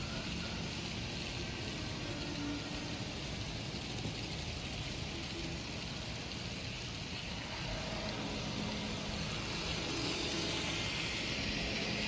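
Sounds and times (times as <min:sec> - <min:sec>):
faint locomotive hum: 0:00.0 - 0:12.0.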